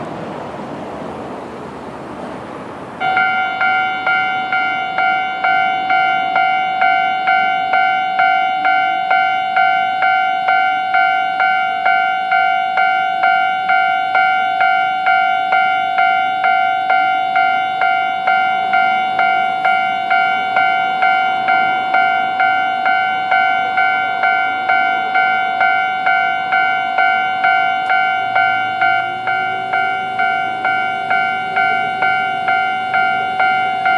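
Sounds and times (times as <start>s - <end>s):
level crossing warning bell: 3.0s - 33.9s.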